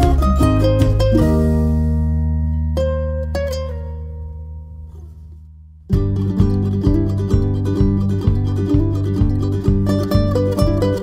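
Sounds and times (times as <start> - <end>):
plucked strings over steady beat: 0.0 - 11.0.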